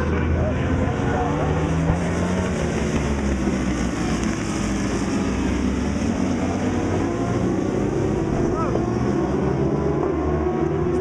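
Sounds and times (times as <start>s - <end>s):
racing motorcycles at high revs: 0.0s - 11.0s.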